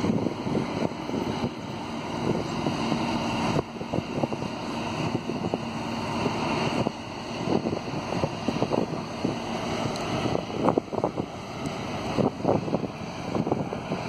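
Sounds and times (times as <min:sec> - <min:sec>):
low ferry hum: 0:00.0 - 0:14.0
wind buffeting microphone: 0:00.0 - 0:14.0.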